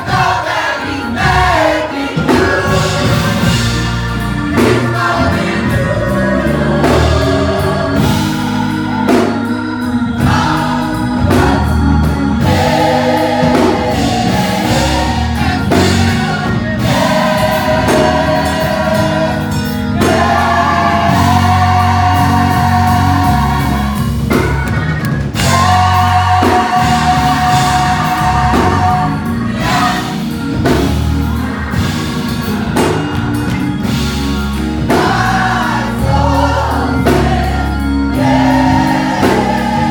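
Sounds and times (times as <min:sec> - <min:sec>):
band bass and drums: 0:00.0 - 0:39.9
gospel choir singing: 0:00.0 - 0:39.9.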